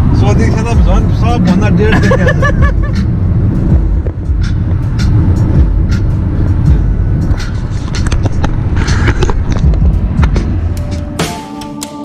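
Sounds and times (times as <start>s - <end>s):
engine and road noise rumble: 0.0s - 11.6s.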